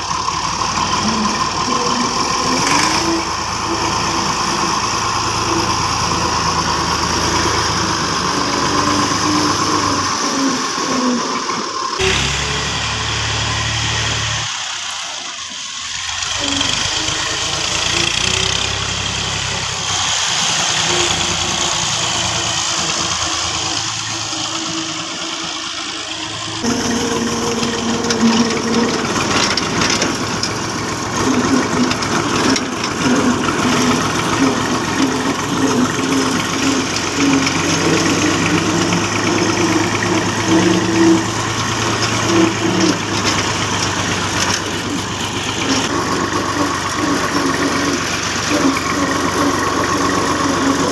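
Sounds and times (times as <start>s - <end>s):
diesel tractor engine running: 0.0s - 50.9s.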